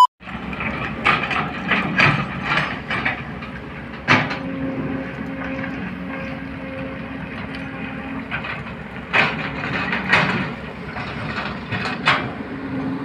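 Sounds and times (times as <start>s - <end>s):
excavator engine steady tone: 0.0s - 13.0s
excavator clanks and knocks: 0.2s - 13.0s.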